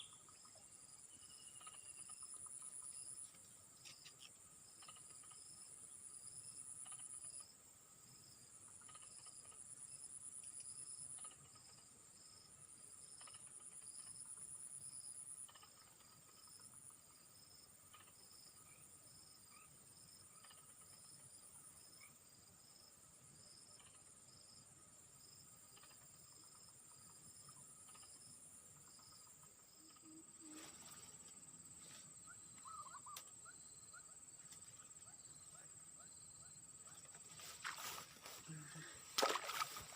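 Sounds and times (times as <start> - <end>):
high insect chorus: 0.0 - 39.9
insect pulsing buzz: 0.0 - 39.9
short insect chirp: 0.0 - 39.9.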